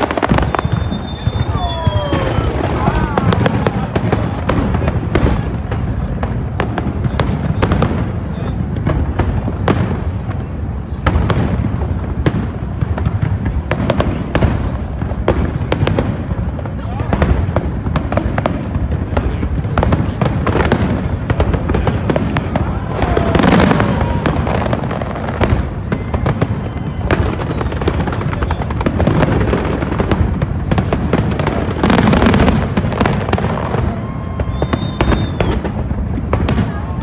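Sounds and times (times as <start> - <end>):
fireworks bangs and crackle: 0.0 - 37.0
loud crackling fireworks bursts: 0.0 - 37.0.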